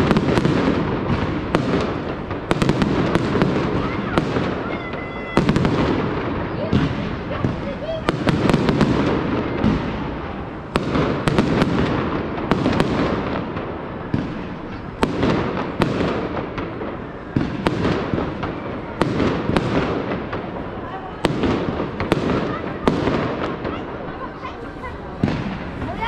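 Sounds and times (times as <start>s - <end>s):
firework shells bursting with bangs: 0.0s - 24.1s, 25.1s - 26.0s
fireworks crackling: 0.0s - 26.0s.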